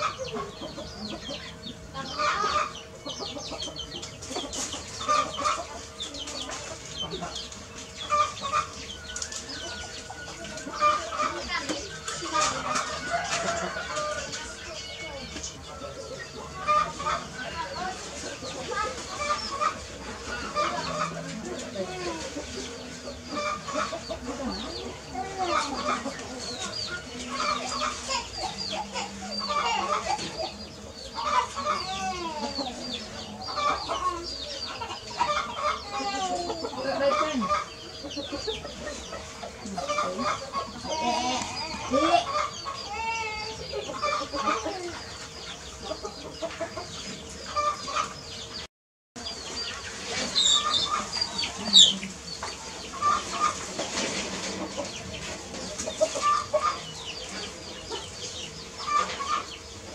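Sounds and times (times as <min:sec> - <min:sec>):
bird calls: 0:00.0 - 0:59.9.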